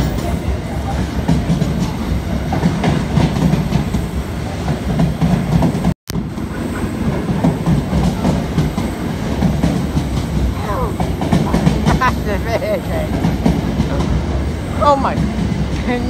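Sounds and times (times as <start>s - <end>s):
train wagons rumbling on rails: 0.0s - 16.0s.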